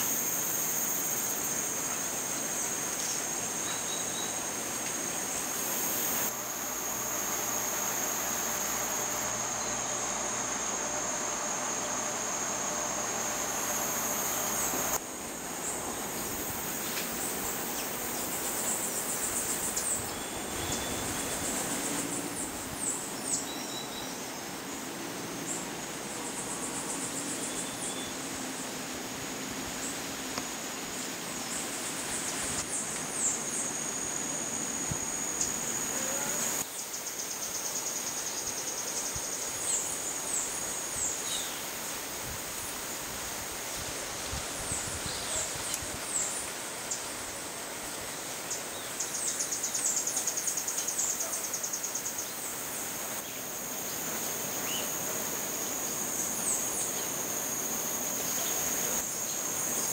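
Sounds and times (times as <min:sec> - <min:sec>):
fast pulsed insect trills: 0:00.0 - 0:59.9
insect high-pitched whine: 0:00.0 - 0:59.9.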